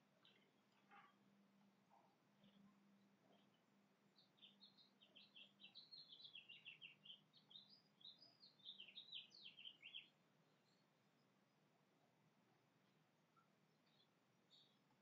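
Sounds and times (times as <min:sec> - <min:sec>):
low steady hum: 0:00.0 - 0:15.0
songbird chirping: 0:00.0 - 0:15.0.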